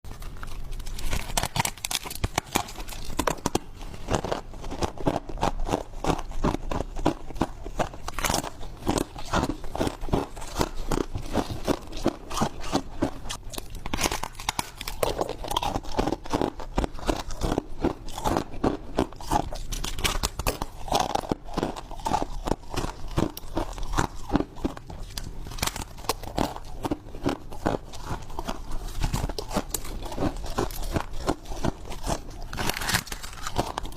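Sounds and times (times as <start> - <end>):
crunching frost being chewed: 0.1 - 33.9.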